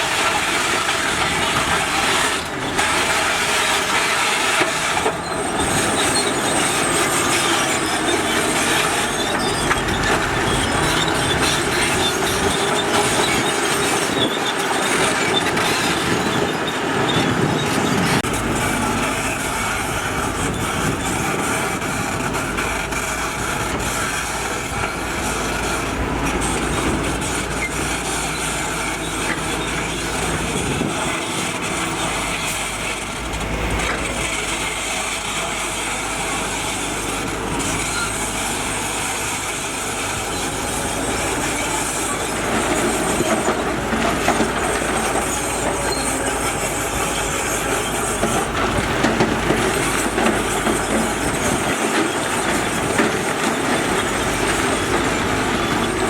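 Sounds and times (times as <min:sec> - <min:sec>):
crawler tracks clanking and squealing: 0:00.0 - 0:56.0
diesel engine under load: 0:00.0 - 0:56.0.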